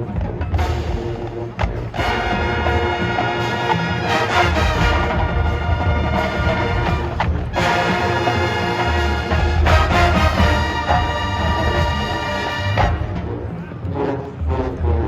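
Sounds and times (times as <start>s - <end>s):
drums and percussion: 0.0s - 15.0s
marching band brass chords: 0.0s - 15.0s.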